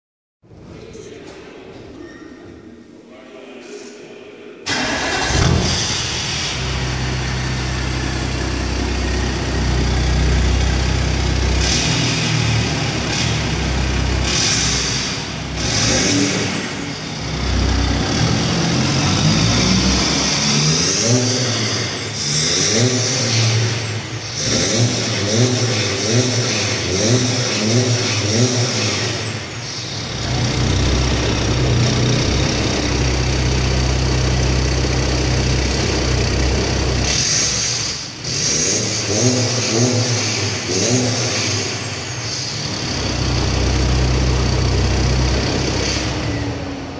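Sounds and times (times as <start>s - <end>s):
diesel car engine starting: 4.6s - 46.9s
car engine idling and revving: 4.7s - 46.9s.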